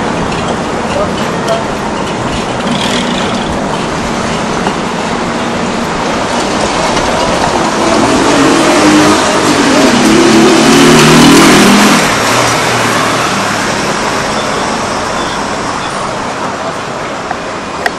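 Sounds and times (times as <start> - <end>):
vehicles driving on cobblestones: 0.0 - 17.9.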